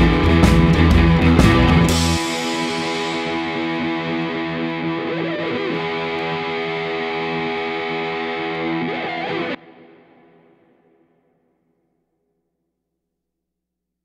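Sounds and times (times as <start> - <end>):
distorted guitar chords: 0.0 - 11.4.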